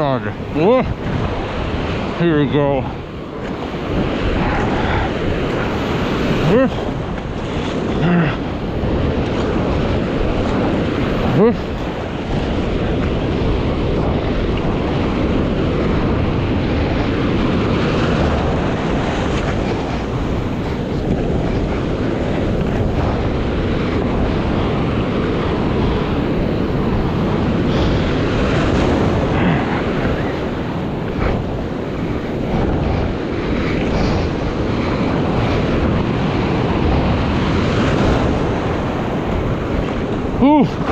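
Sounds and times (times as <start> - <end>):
small ocean waves: 0.0 - 40.9
wind rumble on microphone: 0.0 - 40.9.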